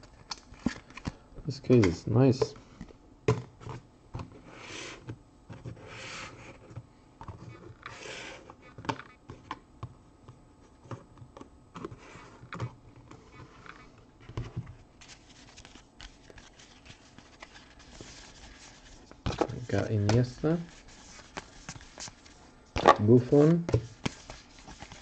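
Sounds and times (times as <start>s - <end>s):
cards sliding rustle: 3.6s - 9.6s, 10.7s - 25.0s.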